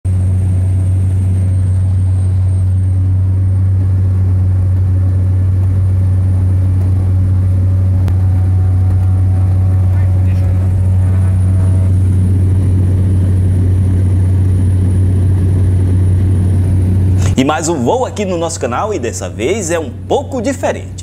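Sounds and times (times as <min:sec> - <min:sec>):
high whine: 0:00.0 - 0:21.0
turboprop engine low drone: 0:00.0 - 0:21.0.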